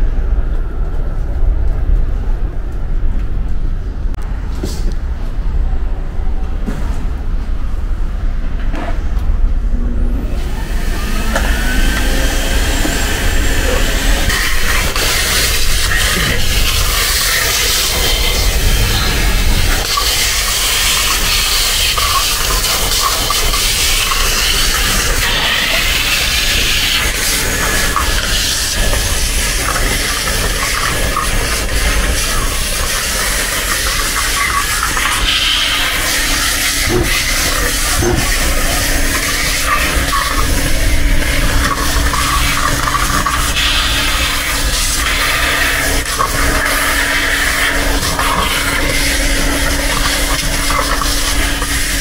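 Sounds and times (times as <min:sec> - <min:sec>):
shop vacuum running: 0:04.2 - 0:52.0.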